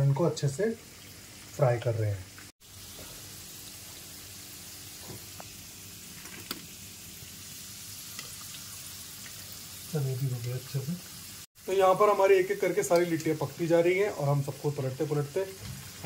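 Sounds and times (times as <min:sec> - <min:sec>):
oil sizzling in a wok: 0:00.0 - 0:16.0.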